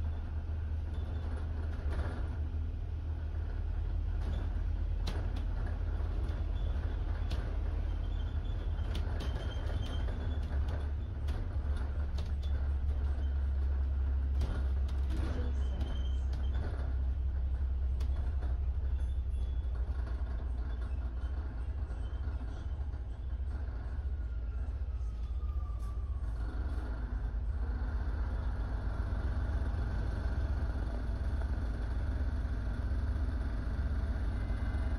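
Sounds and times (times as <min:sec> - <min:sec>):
bus engine rumble: 0:00.0 - 0:34.9.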